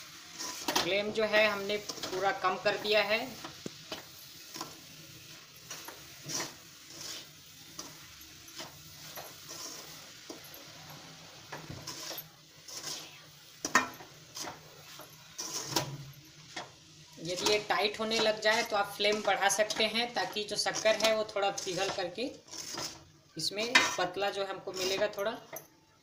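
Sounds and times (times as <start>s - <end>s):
spatula scraping steel pan: 0.2s - 10.5s, 11.5s - 16.7s, 17.3s - 25.3s.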